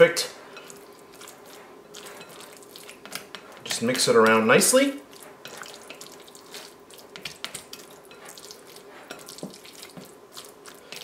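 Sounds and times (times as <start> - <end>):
spatula stirring wet dough: 0.0 - 11.0.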